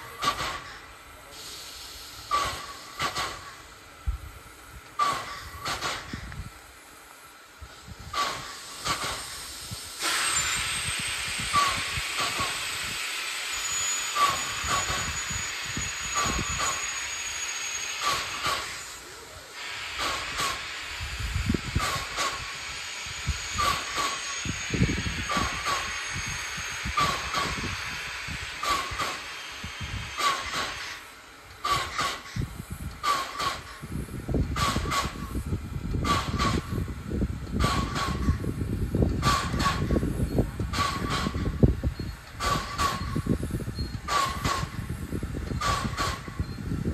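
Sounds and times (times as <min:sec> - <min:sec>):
steam hissing: 0:00.0 - 0:46.9
steam locomotive exhaust chuffs: 0:00.0 - 0:46.9.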